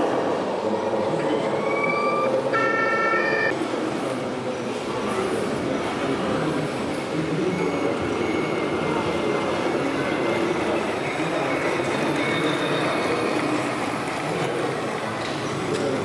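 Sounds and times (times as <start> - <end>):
busy exhibition hall din: 0.0 - 16.0.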